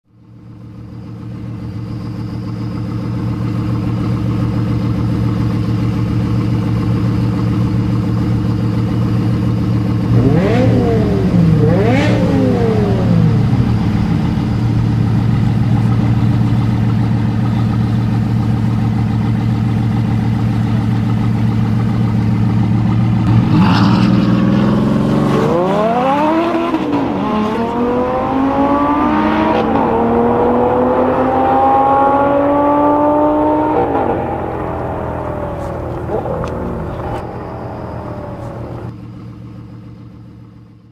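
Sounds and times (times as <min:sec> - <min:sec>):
car engine idling and revving: 0:00.1 - 0:40.9
car accelerating: 0:01.6 - 0:39.1.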